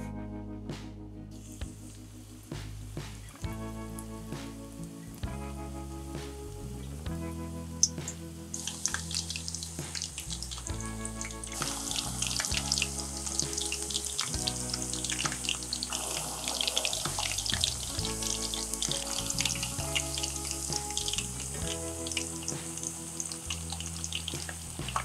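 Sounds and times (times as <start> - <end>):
oil crackling and sizzling: 1.3 - 5.3, 7.8 - 25.0.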